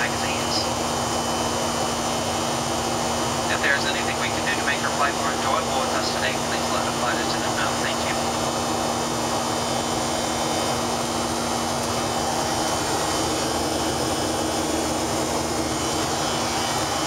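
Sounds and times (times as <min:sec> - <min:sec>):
jet engine drone: 0:00.0 - 0:17.0
steady low hum: 0:00.0 - 0:17.0.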